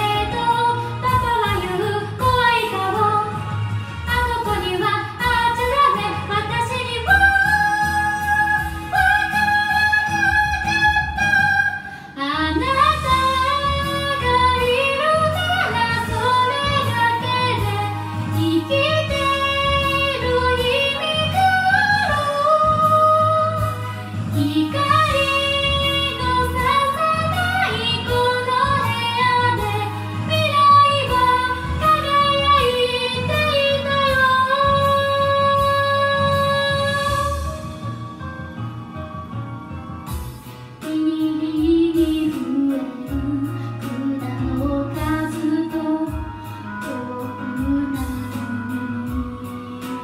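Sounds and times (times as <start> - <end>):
woman singing pop song: 0.0 - 39.1, 39.7 - 50.0
karaoke backing track: 0.0 - 50.0.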